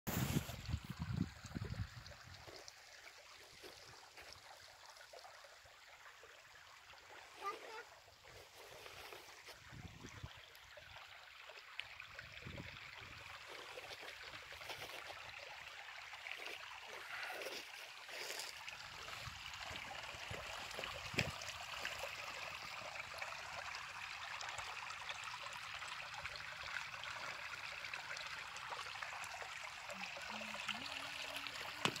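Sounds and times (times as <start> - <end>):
stream trickling over gravel: 0.1 - 32.0.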